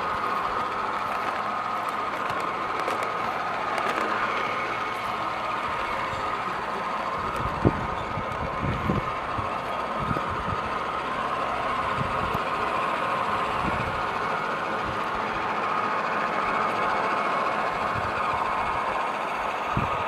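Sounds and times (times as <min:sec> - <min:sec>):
model trains running hum: 0:00.0 - 0:20.0.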